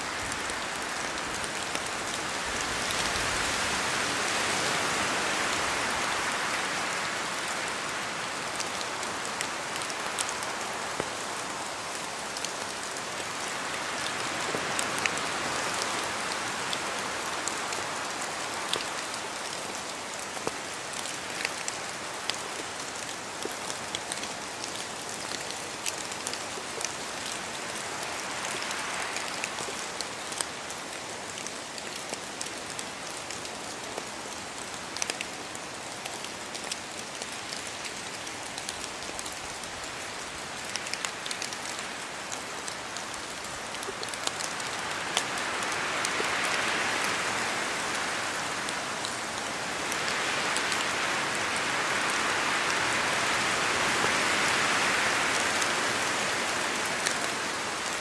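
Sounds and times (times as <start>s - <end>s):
rain falling through trees: 0.0s - 58.0s
wind through leaves: 0.0s - 58.0s.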